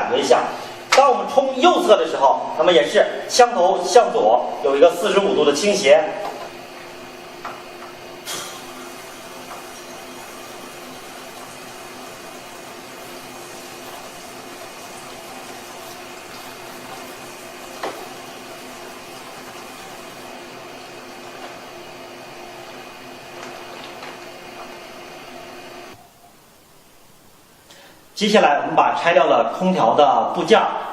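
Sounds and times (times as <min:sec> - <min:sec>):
steady hum: 0:00.0 - 0:30.9.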